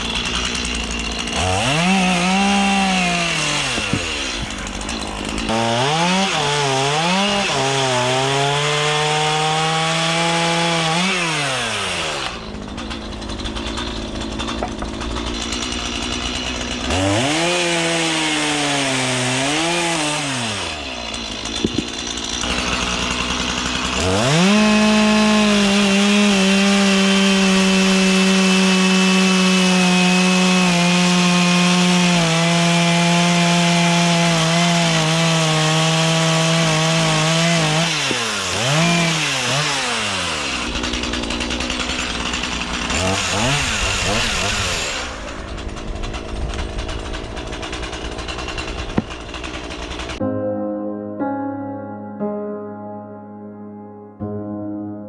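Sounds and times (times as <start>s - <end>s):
chainsaw revving cutting log: 0.0s - 50.2s.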